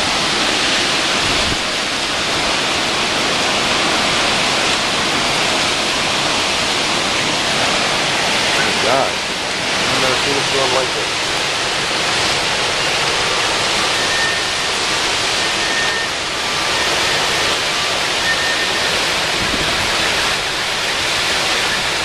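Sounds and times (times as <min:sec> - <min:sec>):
gusting wind: 0:00.0 - 0:22.0
torrential rain: 0:00.0 - 0:22.0.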